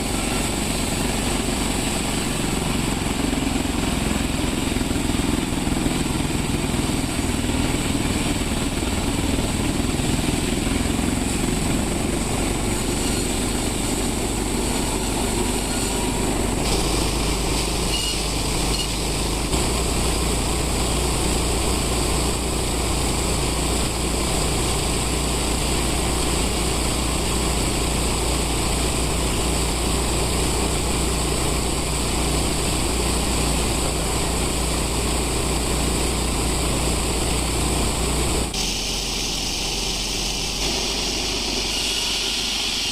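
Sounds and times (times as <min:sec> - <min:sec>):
sawmill machinery droning: 0:00.0 - 0:42.9.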